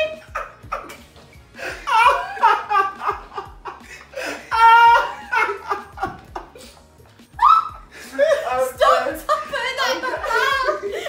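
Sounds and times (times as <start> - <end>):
young people laughing: 0.0 - 6.8, 7.4 - 11.0.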